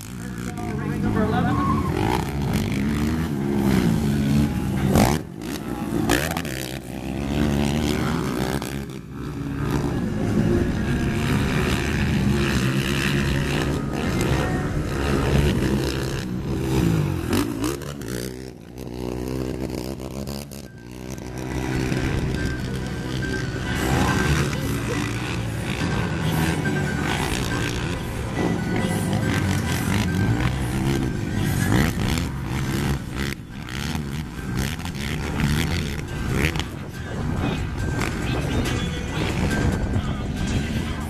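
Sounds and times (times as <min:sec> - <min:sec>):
quad engines revving: 0:00.0 - 0:41.0.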